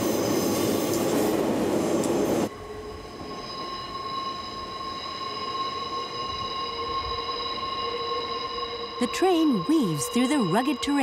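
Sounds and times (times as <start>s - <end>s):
electric train motors and wheels: 0.0s - 11.0s
wheels squealing and howling: 0.0s - 11.0s.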